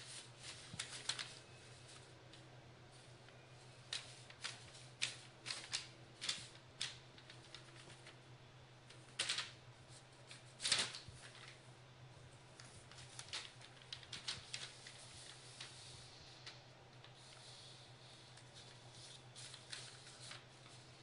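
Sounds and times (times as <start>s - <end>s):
newspaper crinkling and rustling: 0.0s - 8.2s, 8.9s - 11.7s, 12.5s - 17.5s, 18.1s - 21.0s.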